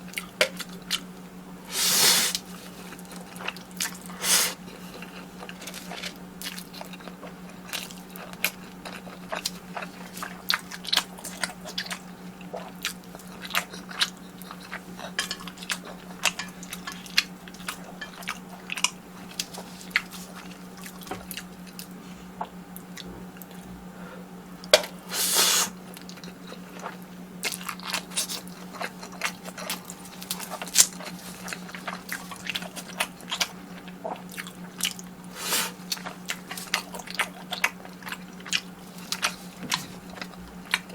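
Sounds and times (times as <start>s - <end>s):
person crunching and chewing: 1.7s - 22.0s, 24.7s - 40.9s.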